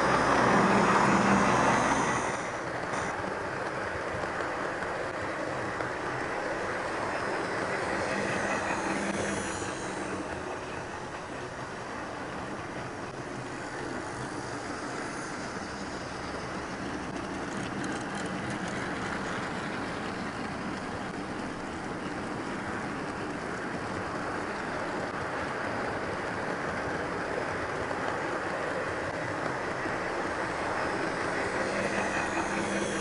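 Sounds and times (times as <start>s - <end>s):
model trains rumbling on track: 0.0s - 33.0s.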